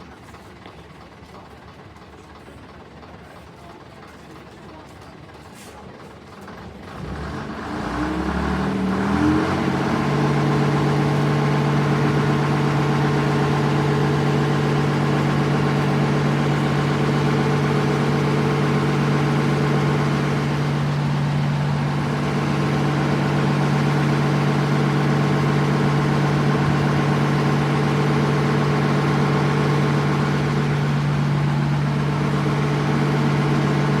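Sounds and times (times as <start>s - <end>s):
vehicle engine droning: 6.3s - 34.0s.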